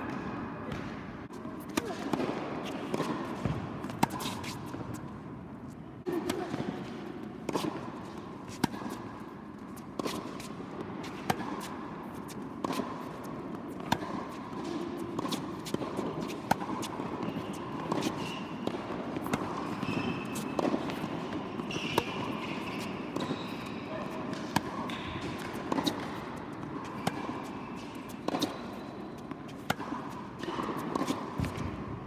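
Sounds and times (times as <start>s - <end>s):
tennis ball bounces: 0.1s - 32.0s
tennis racket strikes: 0.8s - 5.1s, 6.0s - 32.0s.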